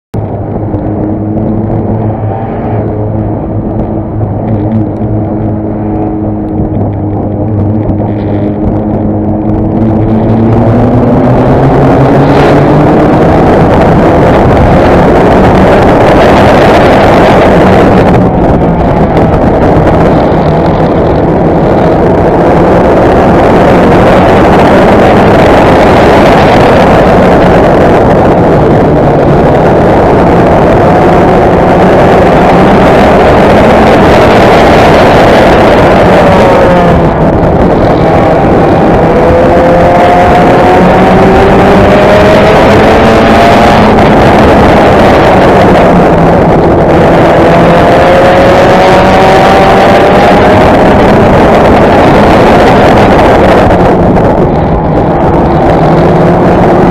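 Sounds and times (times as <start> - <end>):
wind noise on microphone: 0.1 - 56.9
race car engines at high revs: 0.2 - 56.9.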